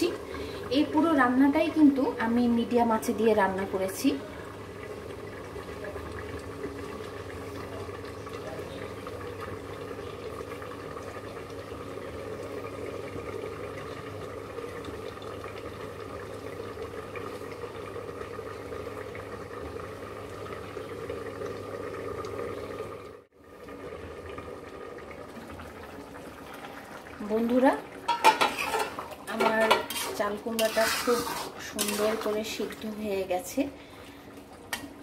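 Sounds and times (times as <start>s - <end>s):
curry bubbling in a wok: 0.0s - 35.0s.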